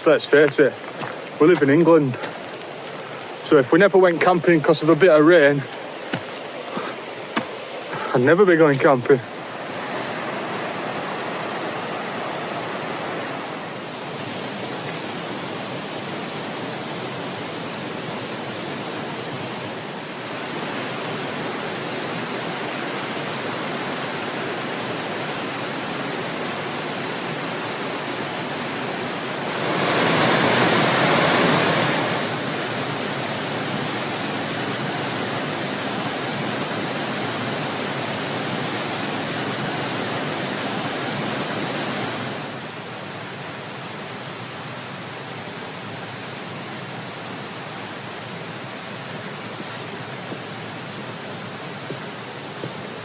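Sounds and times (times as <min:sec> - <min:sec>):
waterfall and stream rushing: 0:00.0 - 0:53.0.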